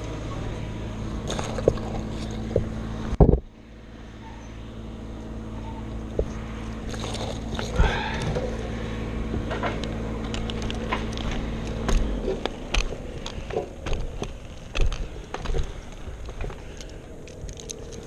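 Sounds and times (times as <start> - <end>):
motor idling hum: 0.0 - 18.0.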